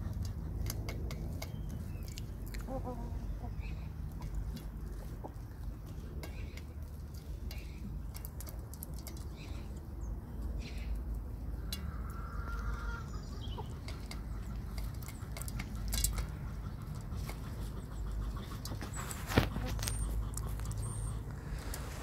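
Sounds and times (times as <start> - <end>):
beaks pecking metal pan: 0.0 - 21.3.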